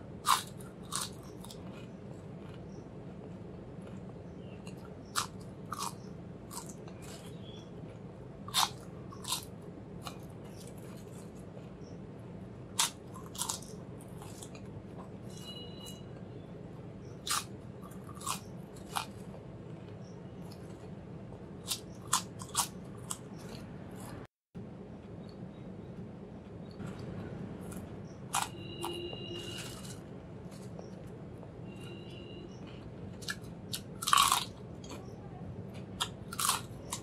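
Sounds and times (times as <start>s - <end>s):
steady low hum: 0.0s - 37.0s
potato chips crunching: 0.2s - 11.8s, 12.5s - 15.2s, 17.2s - 24.3s, 26.8s - 31.1s, 32.6s - 35.1s, 35.7s - 37.0s.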